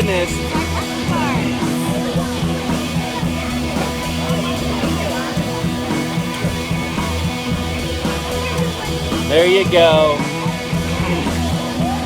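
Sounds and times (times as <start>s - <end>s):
rock music with guitar and drums: 0.0s - 12.0s.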